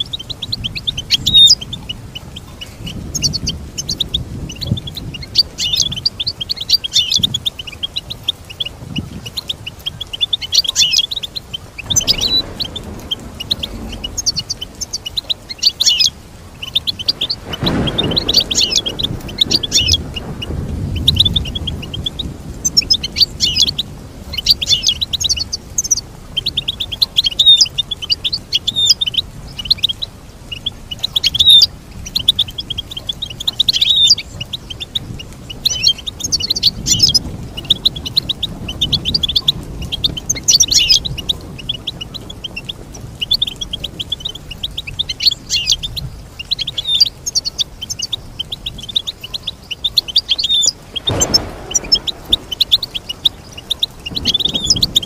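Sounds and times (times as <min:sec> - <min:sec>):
goldfinch twittering song: 0:00.0 - 0:55.0.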